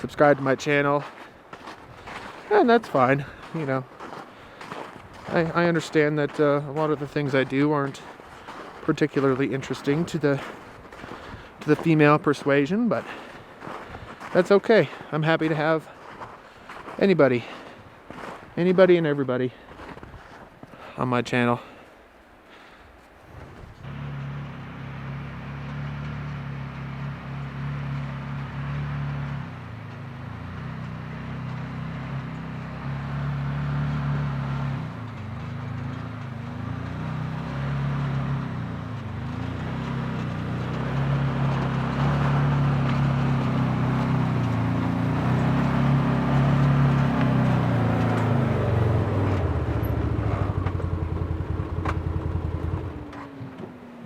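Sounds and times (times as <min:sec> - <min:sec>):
vehicle engine driving: 0:00.0 - 0:18.6, 0:23.8 - 0:54.0.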